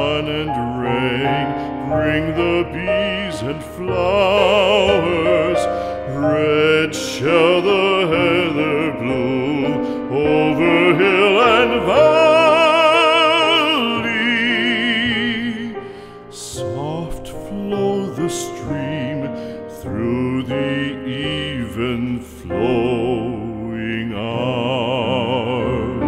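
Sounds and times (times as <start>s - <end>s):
background music with vibrato melody: 0.0s - 26.0s.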